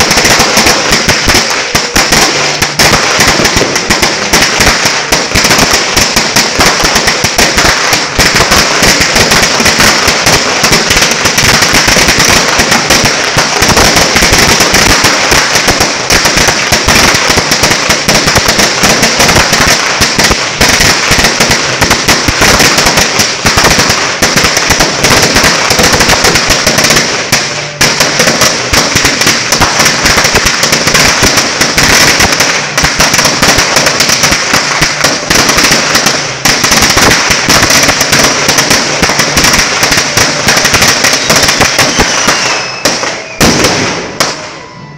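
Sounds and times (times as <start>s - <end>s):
firecrackers going off: 0.0s - 44.9s.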